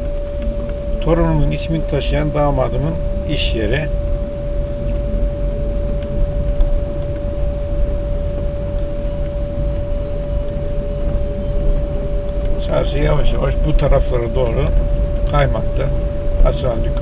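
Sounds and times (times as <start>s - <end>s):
car engine and road rumble: 0.0s - 17.0s
constant pitched tone: 0.0s - 17.0s.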